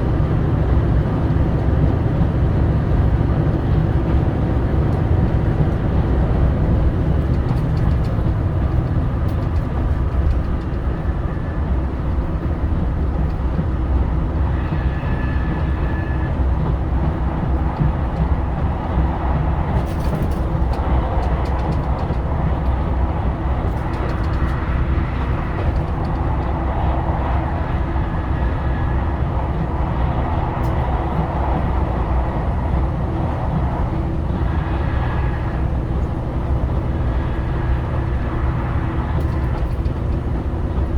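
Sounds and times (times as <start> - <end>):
diesel railcar engine drone: 0.0 - 40.9
wheel and rail running noise: 0.0 - 40.9.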